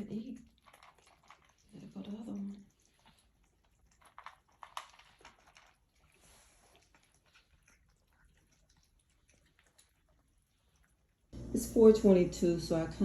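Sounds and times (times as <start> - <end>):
cat and kittens faint sounds: 0.4 - 11.4.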